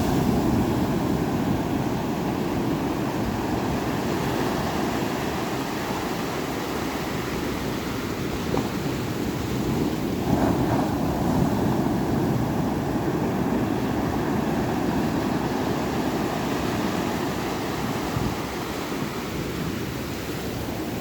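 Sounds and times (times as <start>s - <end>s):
ocean waves washing: 0.0s - 21.0s.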